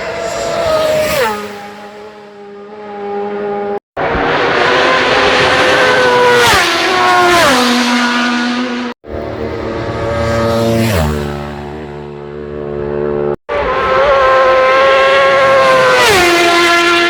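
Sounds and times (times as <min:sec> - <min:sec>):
motorcycle passing at speed: 0:00.0 - 0:17.0.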